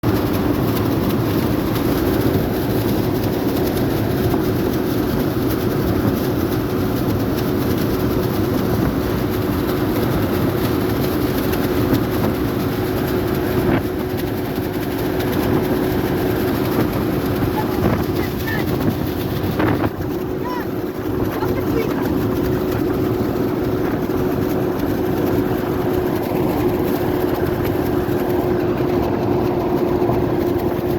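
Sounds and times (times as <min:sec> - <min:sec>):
steady engine drone: 0:00.0 - 0:30.9.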